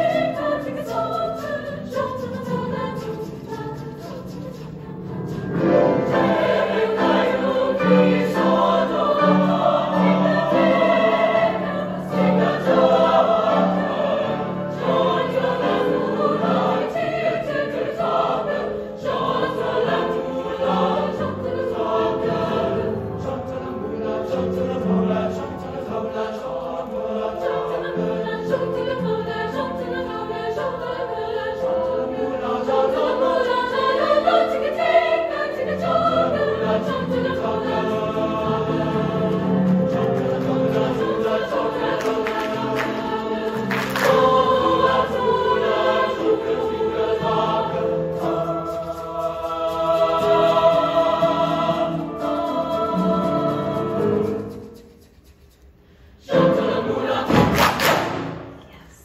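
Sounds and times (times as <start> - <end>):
mixed choir singing: 0.0 - 55.0, 56.1 - 58.9.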